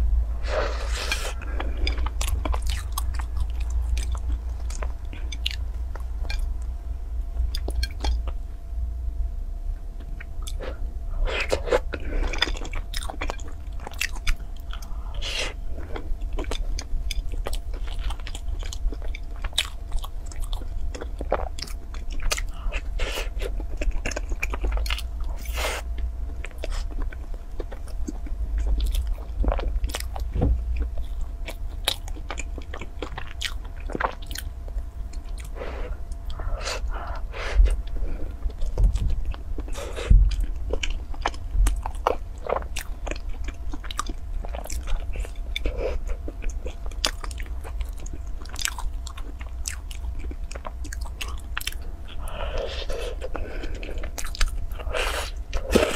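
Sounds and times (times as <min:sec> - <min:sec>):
steady low hum: 0:00.0 - 0:55.9
chewing a crusty bun: 0:10.0 - 0:55.9.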